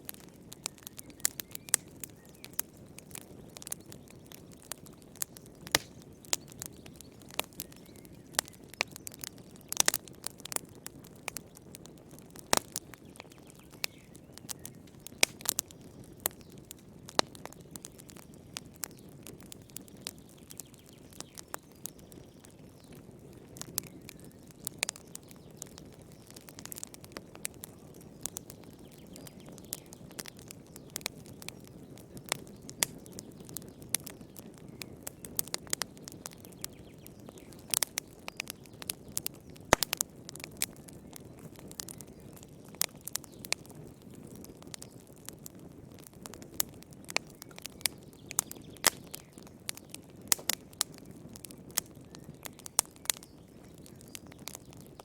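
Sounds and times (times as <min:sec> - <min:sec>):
fire snapping and popping: 0:00.0 - 0:55.0
low rumble of flames: 0:00.0 - 0:55.0.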